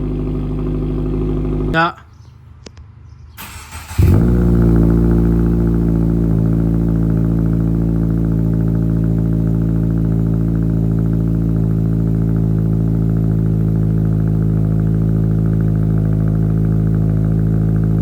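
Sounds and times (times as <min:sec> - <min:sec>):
car engine starting and idling: 0:00.0 - 0:01.8, 0:03.4 - 0:18.0.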